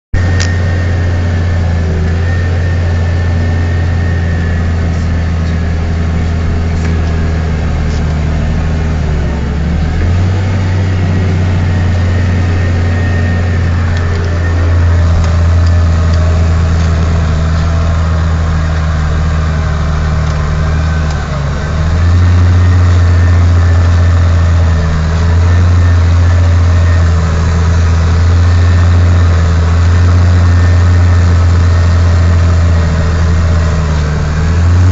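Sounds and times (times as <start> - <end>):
tractor engine under heavy load: 0.1 - 34.9.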